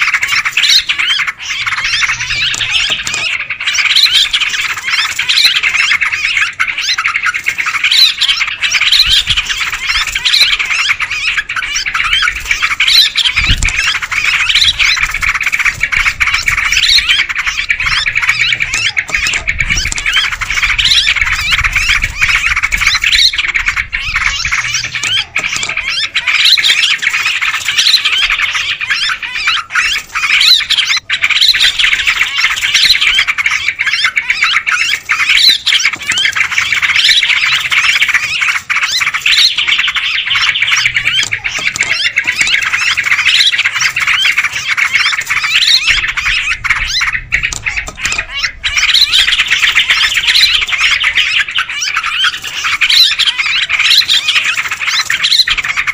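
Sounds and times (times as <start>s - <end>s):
birds chattering: 0.0s - 55.9s.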